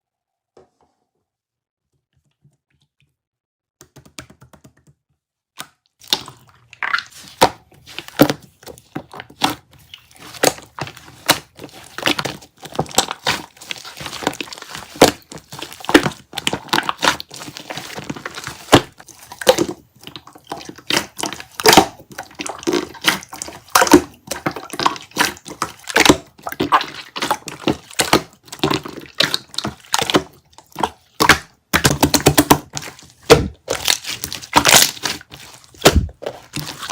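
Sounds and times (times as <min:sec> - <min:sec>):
slime squeezed with wet pops: 0:06.0 - 0:08.4, 0:09.4 - 0:36.9.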